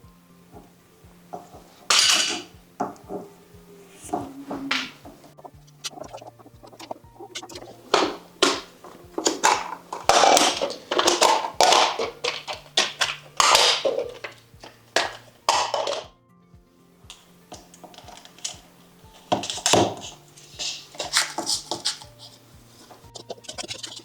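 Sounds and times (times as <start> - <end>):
background music with bass line: 0.0 - 24.0.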